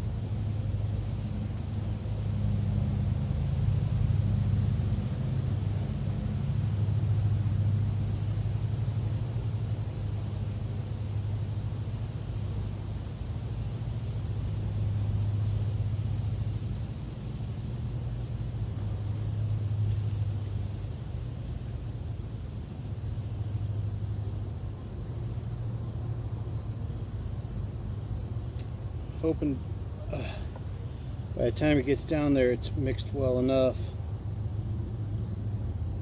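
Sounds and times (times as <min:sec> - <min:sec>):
insects chirring: 0:00.0 - 0:36.0
low machine-like hum: 0:00.0 - 0:36.0.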